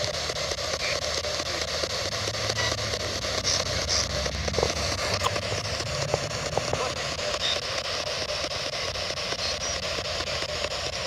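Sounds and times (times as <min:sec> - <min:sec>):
quick regular ticks: 0:00.0 - 0:11.0
radio static hiss: 0:00.0 - 0:11.0.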